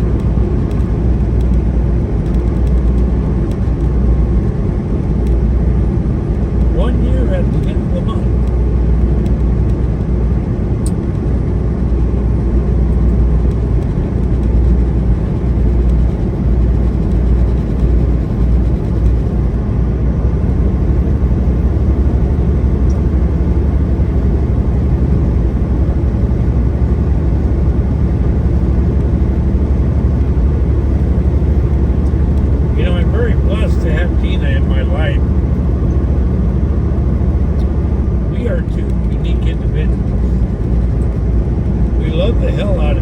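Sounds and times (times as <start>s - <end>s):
truck engine and road noise: 0.0s - 43.0s.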